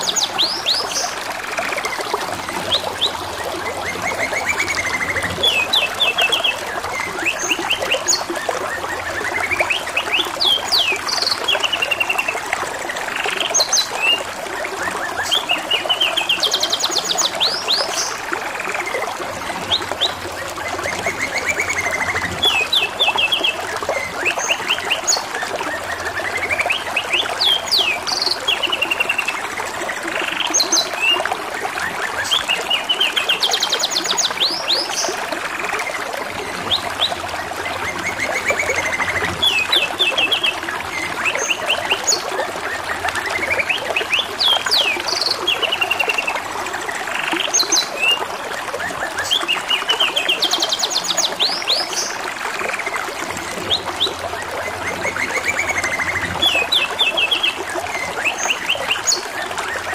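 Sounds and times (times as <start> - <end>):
trickle of running water: 0.0 - 59.9.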